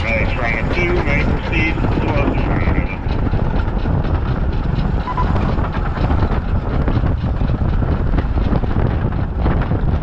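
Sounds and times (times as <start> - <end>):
steam locomotive running: 0.0 - 10.0
wind buffeting microphone: 0.0 - 10.0.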